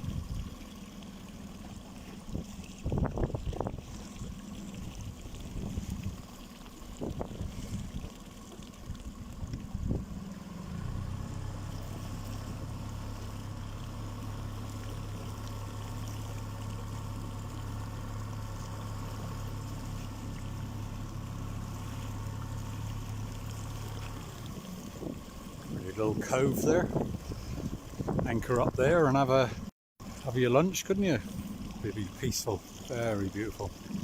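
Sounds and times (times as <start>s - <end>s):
motor boat engine running: 0.0s - 34.0s
water noise: 0.0s - 34.0s
wind: 0.0s - 34.0s.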